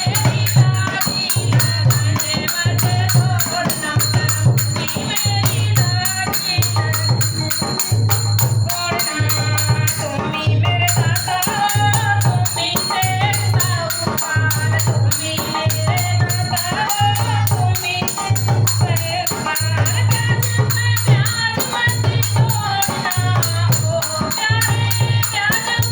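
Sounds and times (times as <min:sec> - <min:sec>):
rattling percussion: 0:00.0 - 0:25.9.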